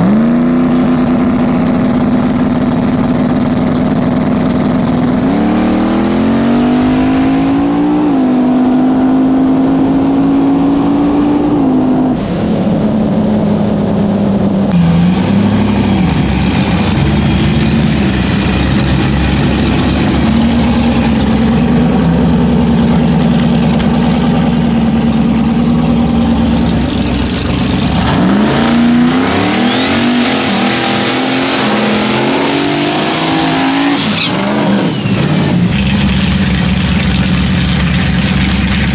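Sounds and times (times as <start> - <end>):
drag racing engine revving: 0.0 - 38.9
high whine: 0.0 - 38.9.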